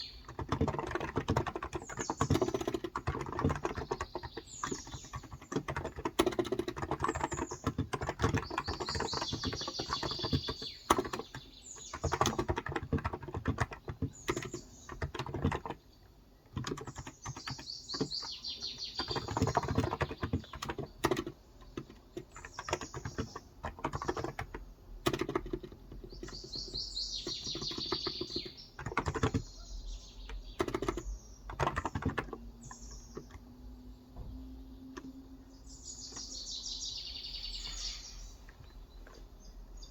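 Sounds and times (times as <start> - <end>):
soft keyboard typing: 0.0 - 33.8, 34.4 - 35.3
small birds chirping: 0.0 - 39.9.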